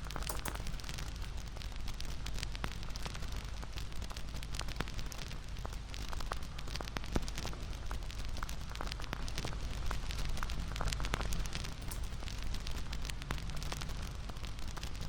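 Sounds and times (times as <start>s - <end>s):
flames hissing and rumbling: 0.0s - 15.0s.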